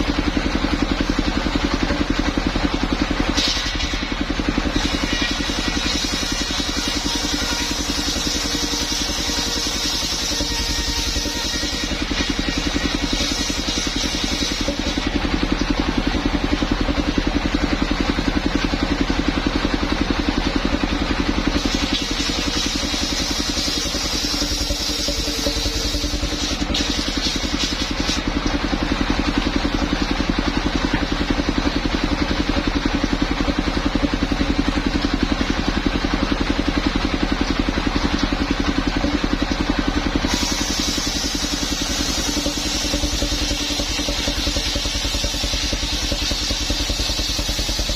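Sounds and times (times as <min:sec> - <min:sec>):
sawmill engine throbbing: 0:00.0 - 0:47.9.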